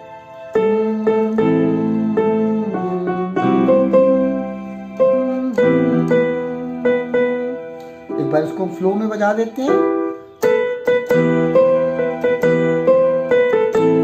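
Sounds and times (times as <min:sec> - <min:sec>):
electronic keyboard piano melody: 0:00.0 - 0:14.0.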